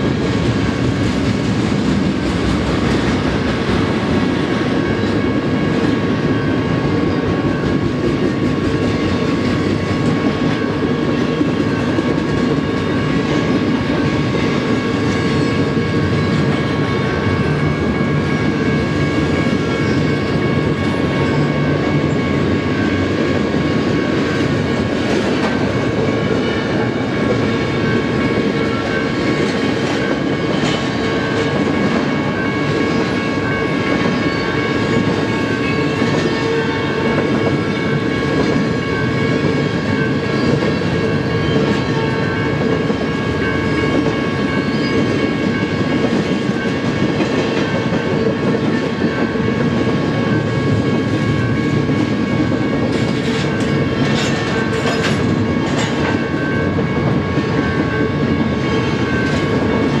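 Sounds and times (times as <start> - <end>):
freight train wheels clicking on rails: 0.0 - 60.0.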